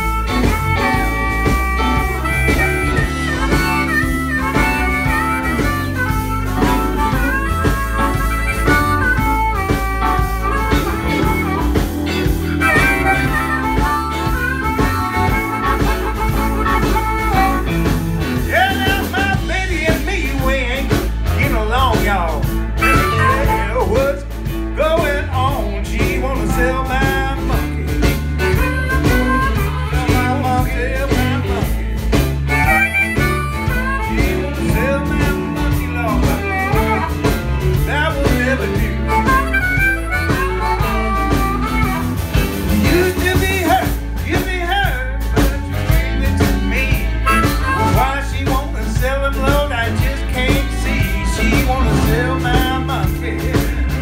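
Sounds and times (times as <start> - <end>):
harmonica solo: 0.0 - 54.0
live blues band: 0.0 - 54.0.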